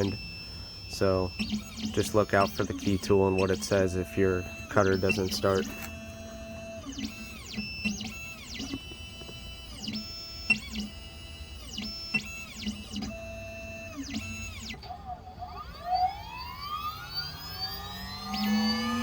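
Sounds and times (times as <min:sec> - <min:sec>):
cutter spindle whine: 0:00.0 - 0:19.0
stepper motors whirring: 0:00.0 - 0:19.0.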